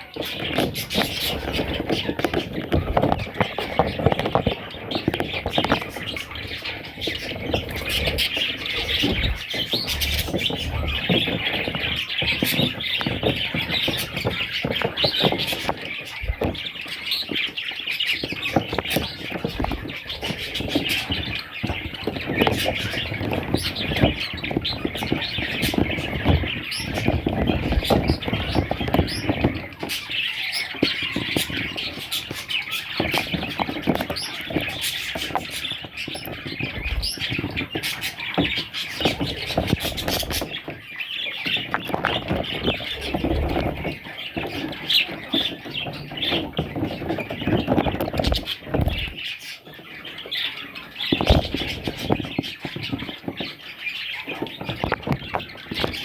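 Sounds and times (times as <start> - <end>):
budgerigars chirping: 0.0 - 56.0
rustling and knocks: 0.0 - 56.0.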